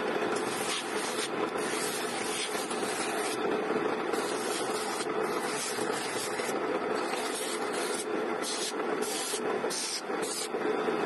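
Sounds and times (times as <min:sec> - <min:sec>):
sanding drum humming: 0:00.0 - 0:10.9.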